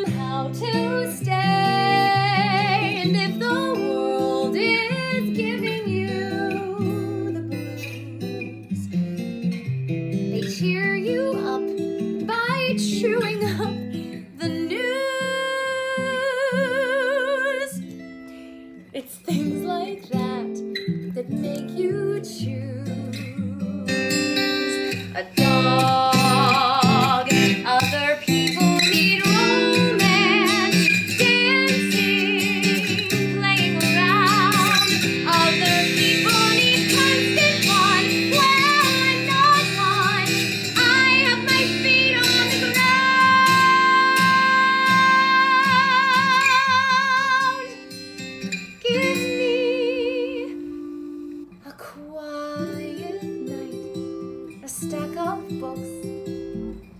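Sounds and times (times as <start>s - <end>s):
woman singing a ballad: 0.0s - 9.2s, 10.3s - 18.1s, 18.8s - 56.6s
acoustic guitar accompaniment: 0.0s - 56.9s.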